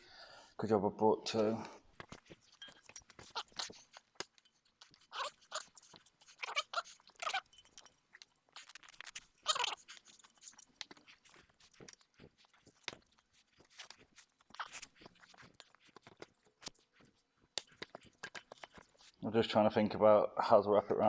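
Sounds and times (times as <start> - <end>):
crunching and rustling tape: 2.0 - 19.2.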